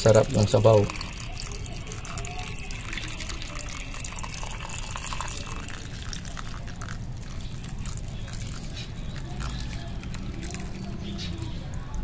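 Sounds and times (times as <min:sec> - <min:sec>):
milk pouring into pot: 0:00.0 - 0:12.0
soup boiling and bubbling: 0:00.0 - 0:12.0.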